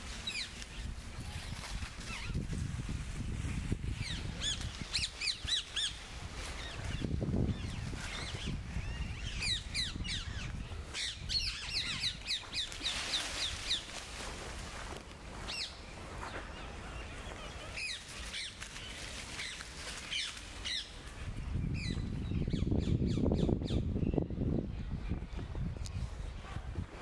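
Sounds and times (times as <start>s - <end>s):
birds chirping: 0.0s - 2.6s, 3.8s - 26.6s.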